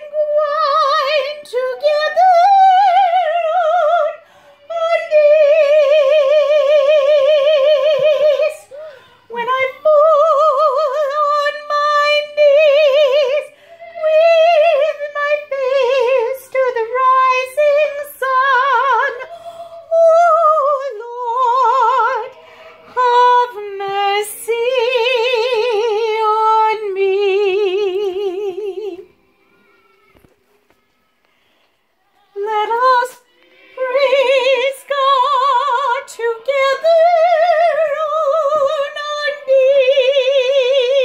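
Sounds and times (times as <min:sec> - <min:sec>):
woman singing unaccompanied: 0:00.0 - 0:29.2, 0:32.1 - 0:41.0.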